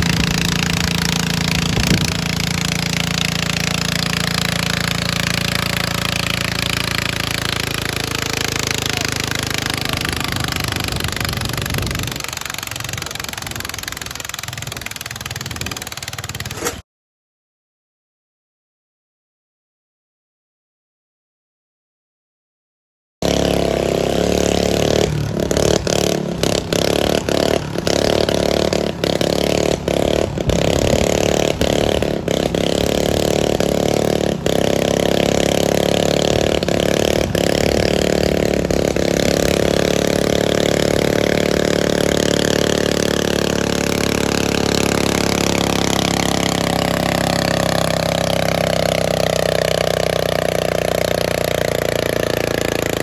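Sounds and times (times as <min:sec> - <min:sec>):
tractor engine at high revs: 0:00.0 - 0:16.8, 0:23.2 - 0:53.0.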